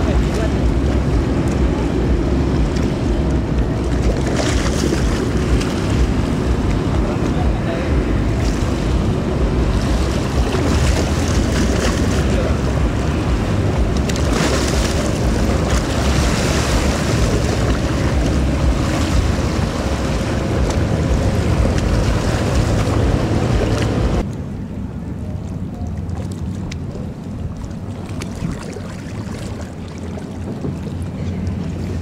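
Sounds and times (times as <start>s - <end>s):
ferry engine rumble: 0.0s - 32.0s
rushing wake water: 0.0s - 32.0s
wind buffeting microphone: 0.0s - 32.0s.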